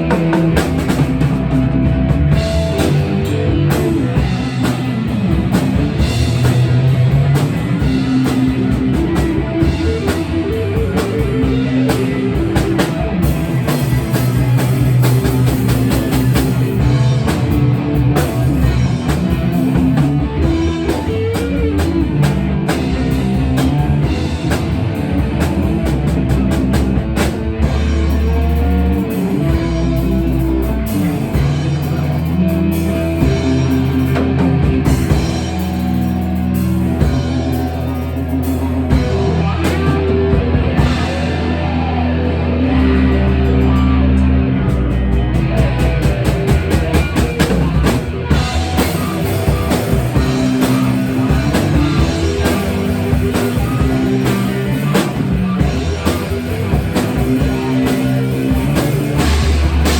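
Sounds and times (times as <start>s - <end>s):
rock music: 0.0s - 59.9s.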